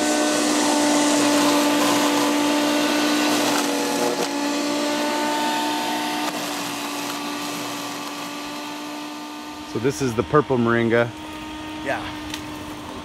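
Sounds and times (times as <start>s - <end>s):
wood chipper grinding branches: 0.0s - 13.0s.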